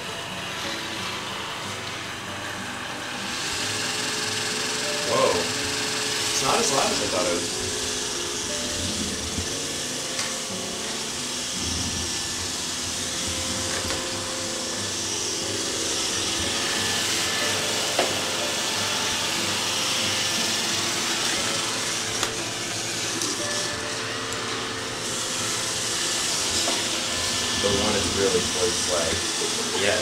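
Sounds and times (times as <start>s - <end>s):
robot vacuum running: 0.0s - 30.0s.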